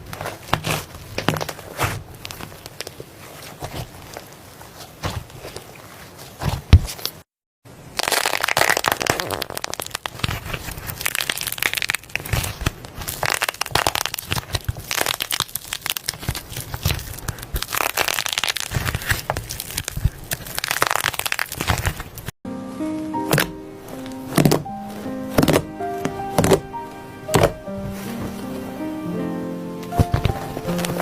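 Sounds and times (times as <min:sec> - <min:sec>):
slime crackling and popping: 0:00.0 - 0:05.6, 0:07.9 - 0:22.3, 0:23.2 - 0:26.7, 0:27.3 - 0:28.4, 0:29.9 - 0:31.0.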